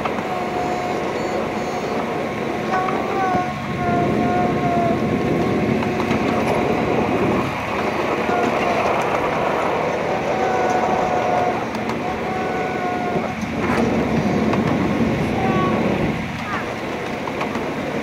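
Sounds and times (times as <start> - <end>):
ride-on train rumbling on track: 0.0 - 18.0.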